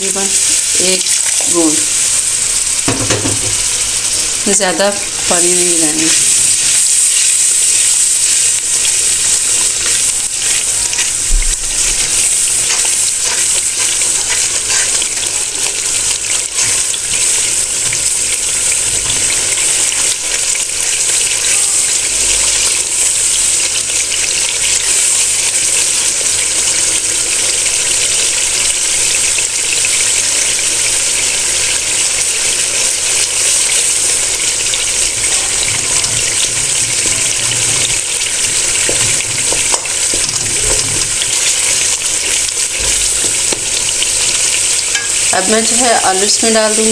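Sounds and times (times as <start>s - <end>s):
masala sizzling in hot oil: 0.0s - 46.9s
wooden spatula stirring in pan: 0.4s - 27.4s, 32.5s - 45.3s.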